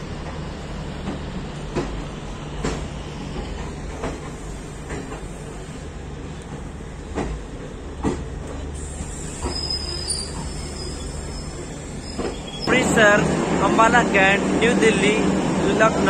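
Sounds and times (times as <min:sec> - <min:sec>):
train coach rumbling: 0:00.0 - 0:16.0.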